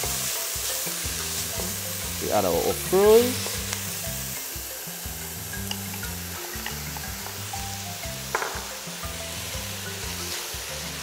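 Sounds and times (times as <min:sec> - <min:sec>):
background music with bass: 0:00.0 - 0:11.0
vegetables sizzling in oil: 0:00.0 - 0:11.0.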